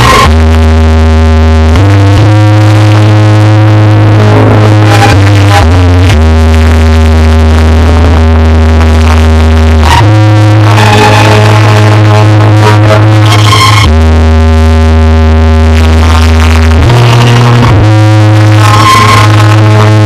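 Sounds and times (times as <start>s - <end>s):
loud dance music: 0.0s - 20.0s.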